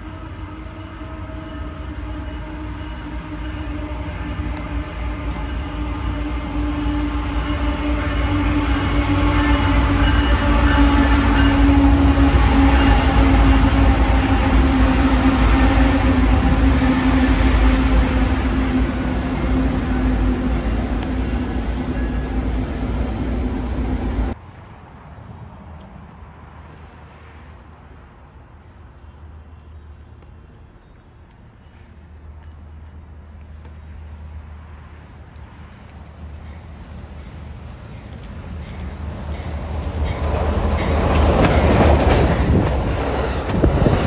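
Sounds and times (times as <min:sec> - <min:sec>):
train heavy rumble: 0:00.0 - 0:24.4, 0:31.7 - 0:44.0
diesel locomotive engine drone: 0:00.0 - 0:44.0.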